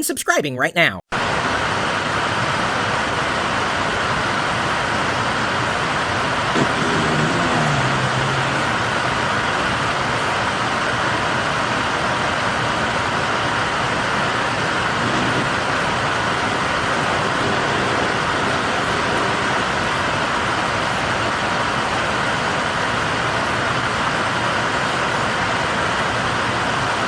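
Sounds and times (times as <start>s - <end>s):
steady rushing hiss: 1.3s - 27.0s.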